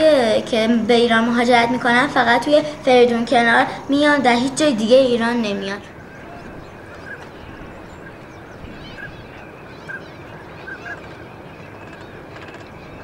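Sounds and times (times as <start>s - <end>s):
flock of ducks calling: 1.5s - 13.0s.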